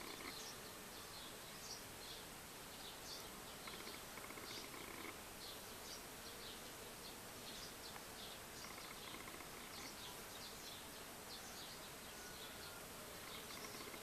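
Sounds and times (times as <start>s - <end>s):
bees buzzing: 0.0s - 14.0s
small birds chirping: 0.0s - 14.0s.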